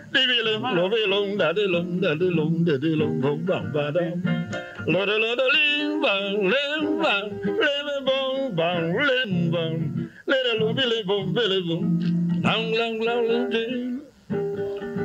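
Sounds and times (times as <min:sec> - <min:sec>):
man singing: 0:00.0 - 0:14.2
acoustic guitar: 0:00.0 - 0:15.0.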